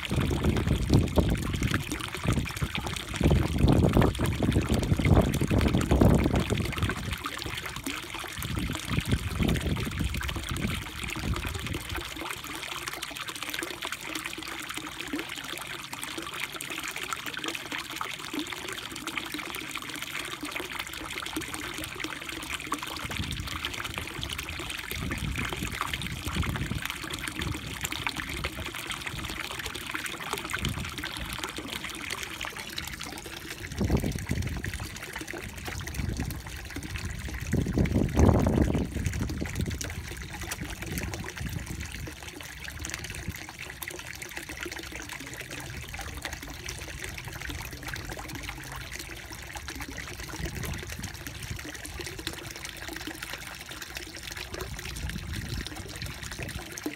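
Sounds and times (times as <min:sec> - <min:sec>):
water trickling into pond: 0:00.0 - 0:56.9.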